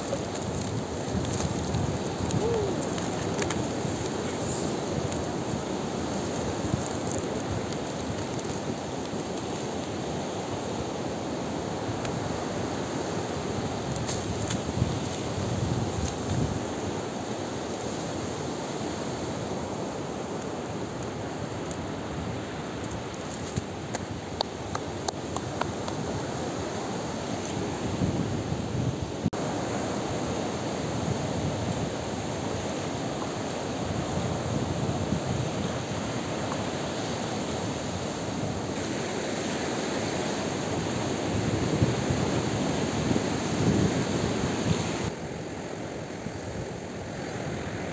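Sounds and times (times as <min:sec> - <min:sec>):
wind: 0:00.0 - 0:47.9.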